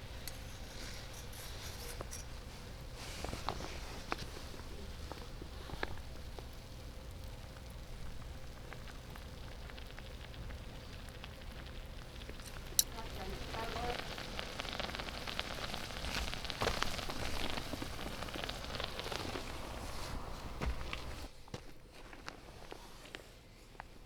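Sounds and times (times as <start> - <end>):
food sizzling in a skillet: 0.0 - 21.3.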